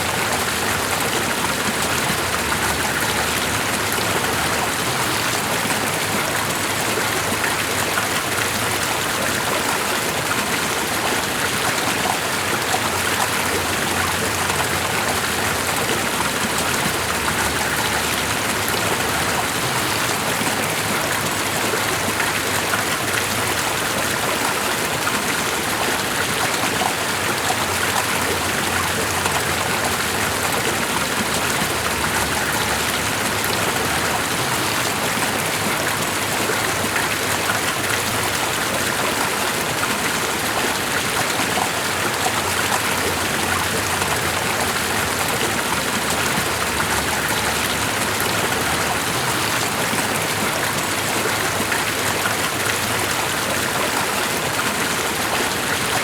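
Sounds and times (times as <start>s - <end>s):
rushing water splashing: 0.0s - 56.0s.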